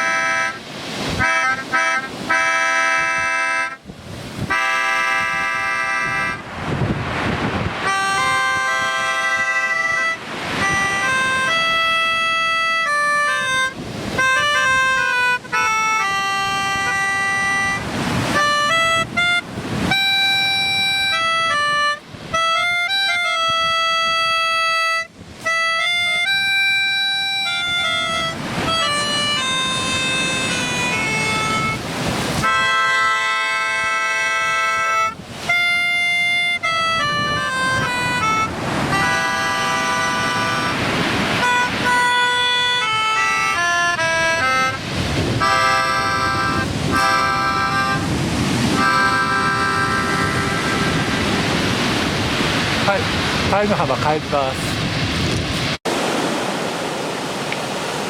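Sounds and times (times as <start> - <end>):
melodica playing slow chords: 0.0 - 3.8, 4.4 - 6.6, 7.7 - 52.5.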